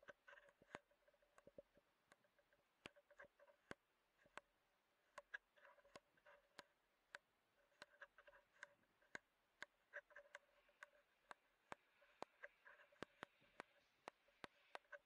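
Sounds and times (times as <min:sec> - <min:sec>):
faint clicks and ticks: 0:00.0 - 0:15.0.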